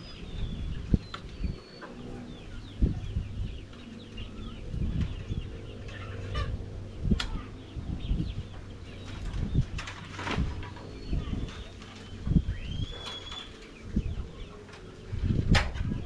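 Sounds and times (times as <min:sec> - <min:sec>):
chickens clucking: 0:00.5 - 0:16.0.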